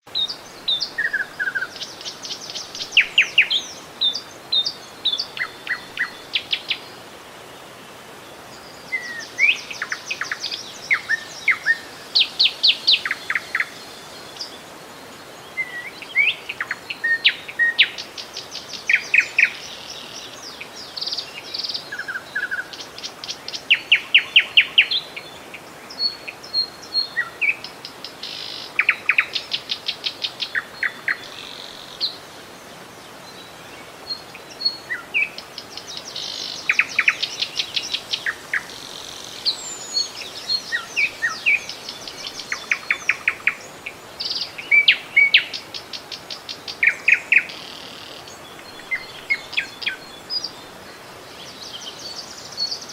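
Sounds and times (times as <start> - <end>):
songbirds chirping and trilling: 0.0 - 52.9
running river water: 0.1 - 52.9.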